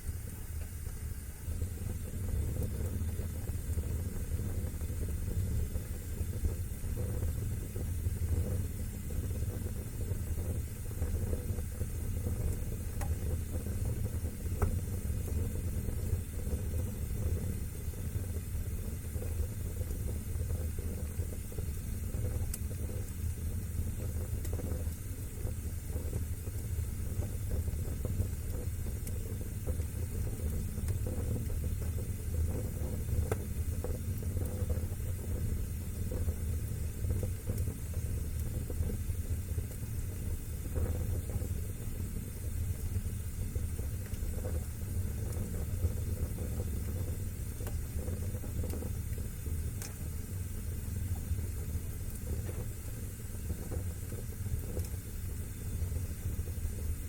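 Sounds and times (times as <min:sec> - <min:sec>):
fire crackles and pops: 0:00.0 - 0:57.0
fire flames rumbling: 0:00.0 - 0:57.0.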